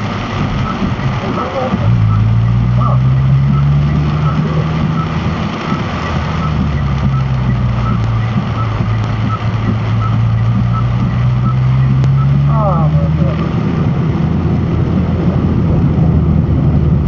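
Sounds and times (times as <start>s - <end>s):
heavy rain on car roof: 0.0s - 17.0s
low engine hum: 0.0s - 17.0s.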